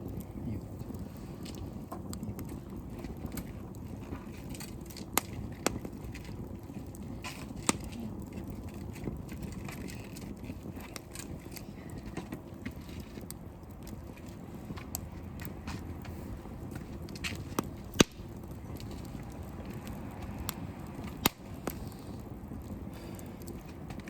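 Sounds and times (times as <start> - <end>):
sharp pops of burning wood: 0.0 - 24.0
wood fire crackling: 0.0 - 24.0.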